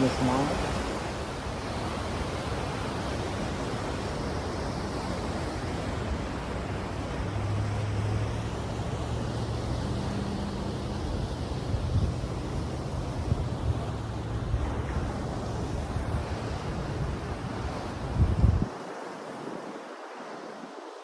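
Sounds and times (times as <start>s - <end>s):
ocean surf: 0.0s - 21.0s
wind: 0.0s - 21.0s.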